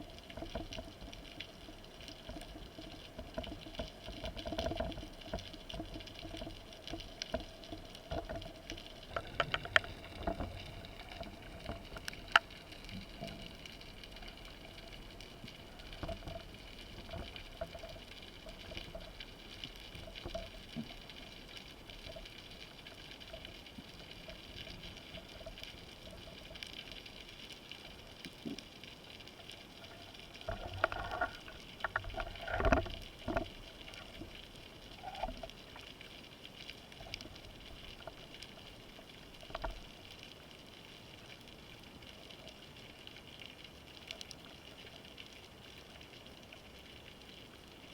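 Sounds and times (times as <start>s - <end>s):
faint steady hum: 0.0s - 47.9s
underwater crackles and clicks: 0.0s - 47.9s.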